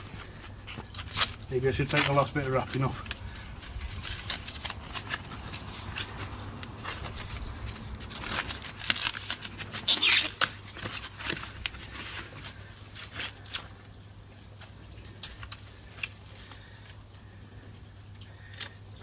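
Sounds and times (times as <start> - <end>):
packaging wrap crinkling and tearing: 0.0 - 17.0.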